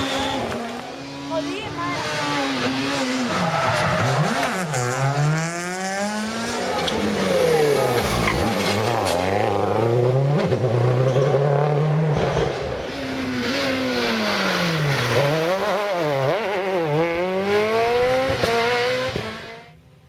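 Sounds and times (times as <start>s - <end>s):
rally car engine revving: 0.0s - 19.8s.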